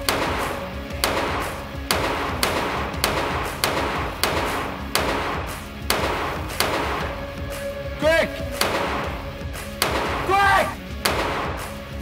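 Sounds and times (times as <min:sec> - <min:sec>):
handgun shots: 0:00.0 - 0:07.1, 0:08.5 - 0:11.7
background music: 0:00.0 - 0:12.0.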